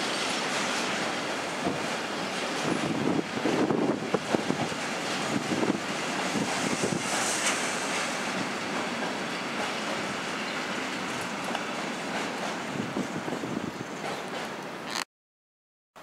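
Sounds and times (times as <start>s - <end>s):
freight train rumble and hiss: 0.0s - 14.9s.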